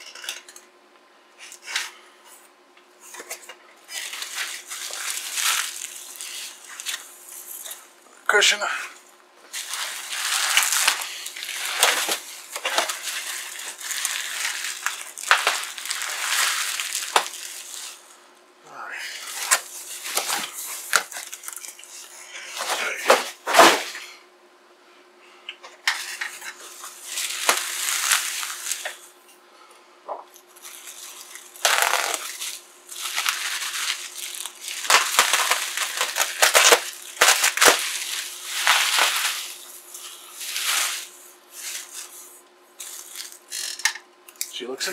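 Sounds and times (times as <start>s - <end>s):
faint steady hum: 0.0s - 44.9s
bubble wrap and cardboard rustling: 3.0s - 24.1s, 25.9s - 29.2s, 30.3s - 43.9s.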